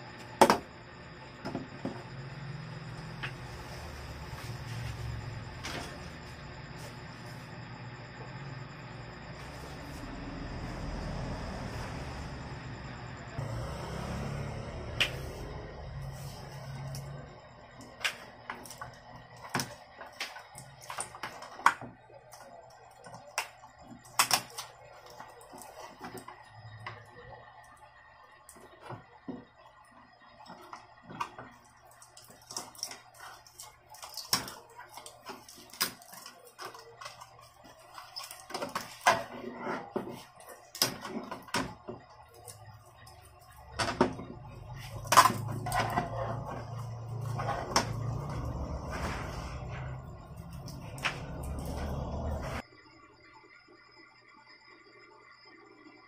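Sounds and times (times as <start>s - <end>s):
low steady hum: 0.0s - 54.1s.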